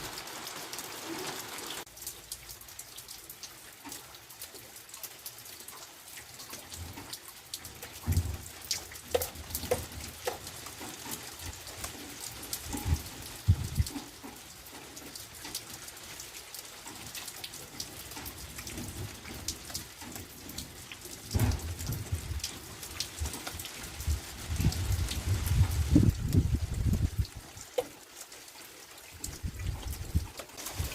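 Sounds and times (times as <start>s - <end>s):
rain drops ticking: 0.0s - 30.9s.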